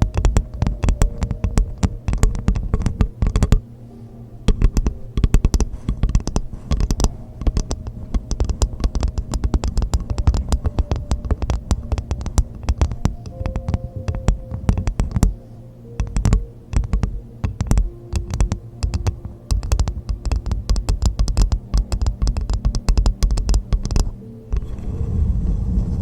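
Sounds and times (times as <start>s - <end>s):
fingers tapping coconut shell: 0.0s - 3.6s, 4.4s - 24.7s
steady scratchy noise: 0.0s - 26.0s.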